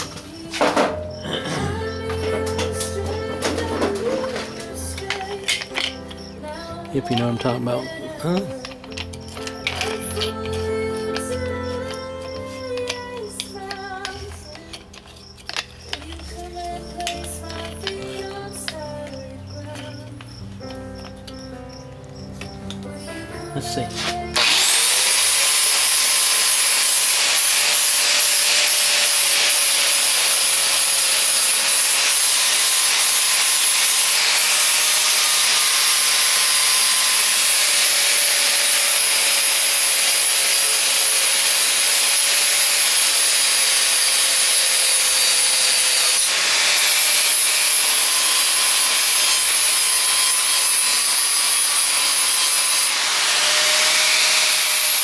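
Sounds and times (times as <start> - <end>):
angle grinder grinding metal: 0.0 - 21.4, 22.2 - 55.0.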